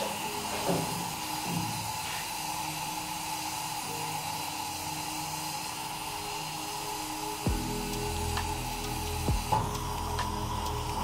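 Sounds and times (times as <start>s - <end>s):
background music with held notes: 0.0s - 11.0s
sodium hissing and fizzing: 0.0s - 11.0s.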